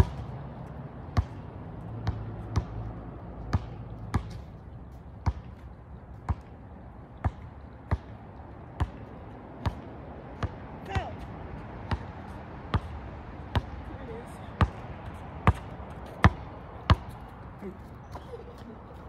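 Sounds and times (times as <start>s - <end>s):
basketball bouncing on asphalt: 0.0s - 19.0s.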